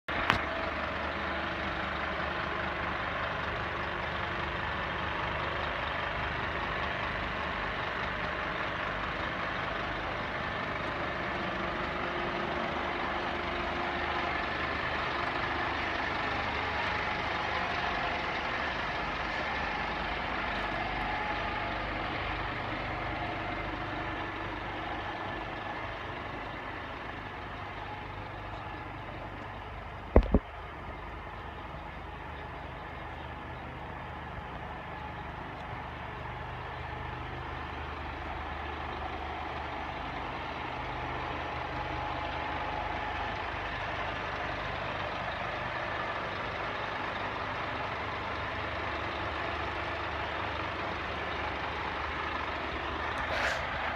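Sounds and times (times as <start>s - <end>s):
truck diesel engine idling: 0.0s - 53.9s.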